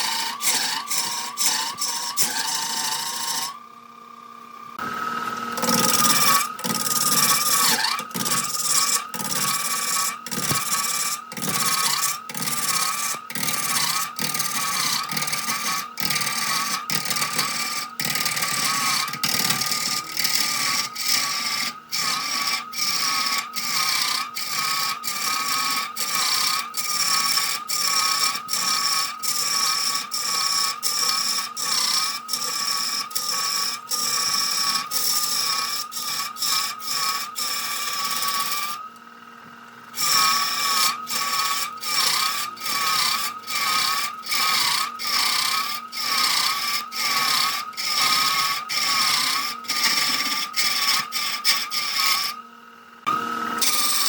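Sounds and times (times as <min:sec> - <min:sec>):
turning tool scraping wood: 0:00.0 - 0:03.6, 0:05.5 - 0:39.0, 0:39.9 - 0:52.4, 0:53.6 - 0:54.0
wood lathe whining: 0:00.0 - 0:54.0.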